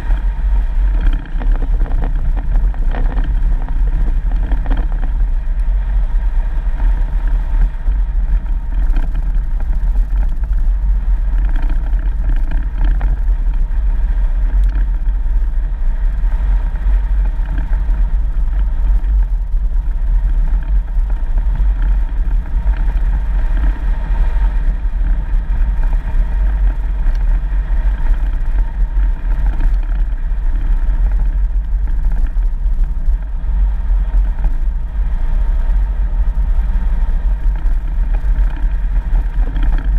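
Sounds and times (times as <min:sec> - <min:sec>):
vehicle engine and tyres rumbling: 0:00.0 - 0:39.9.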